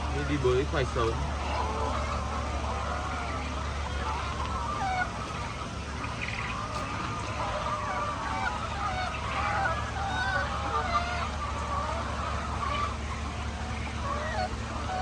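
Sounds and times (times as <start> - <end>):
hens clucking and squawking: 0.0 - 15.0
low hum: 1.1 - 15.0.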